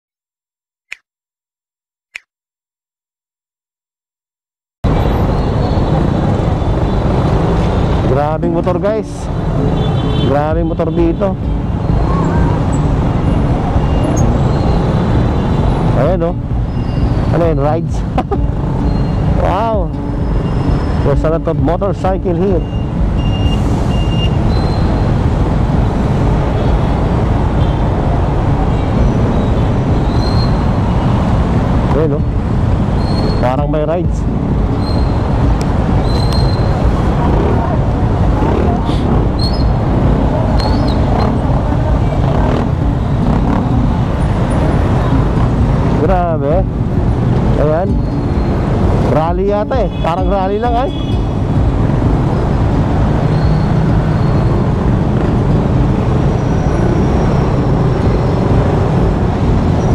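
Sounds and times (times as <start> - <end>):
motorcycle and vehicle engines rumbling: 4.8 - 59.9.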